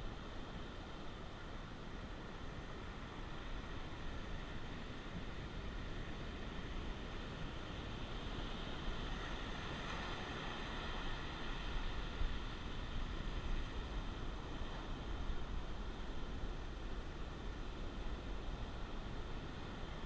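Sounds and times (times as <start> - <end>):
ocean surf washing ashore: 0.0 - 20.0
wind rumble on microphone: 0.0 - 20.0.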